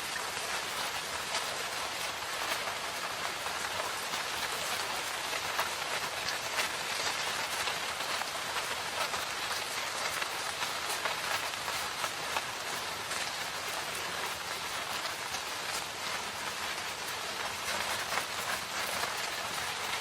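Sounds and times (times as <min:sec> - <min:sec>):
rain pattering on leaves: 0:00.0 - 0:20.0.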